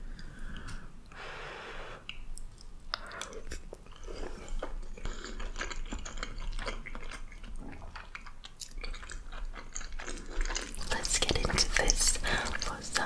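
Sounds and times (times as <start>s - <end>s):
mouth clicks and smacks: 2.0s - 13.0s
person chewing food: 2.0s - 13.0s.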